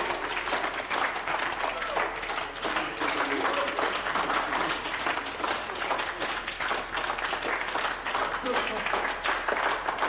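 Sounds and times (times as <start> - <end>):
dense crowd noise: 0.0 - 10.0
people clapping: 0.0 - 10.0.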